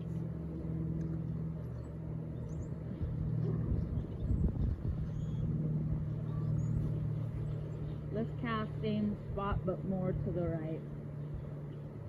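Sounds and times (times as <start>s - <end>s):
uneven rumble: 0.0s - 10.5s
low motor-like hum: 0.0s - 12.0s.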